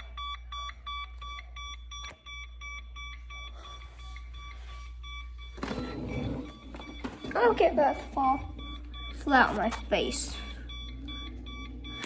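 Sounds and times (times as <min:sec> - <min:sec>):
electronic device beeping: 0:00.0 - 0:12.0.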